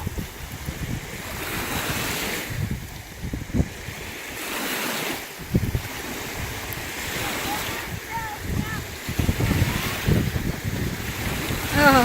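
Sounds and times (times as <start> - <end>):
low thumps of wind buffeting: 0.0 - 4.6, 5.2 - 12.0
gusty wind on microphone: 0.0 - 12.0
lake waves washing in: 0.0 - 12.0.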